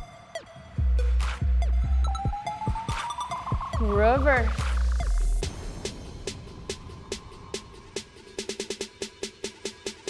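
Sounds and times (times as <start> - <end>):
electronic workout music: 0.0 - 10.0.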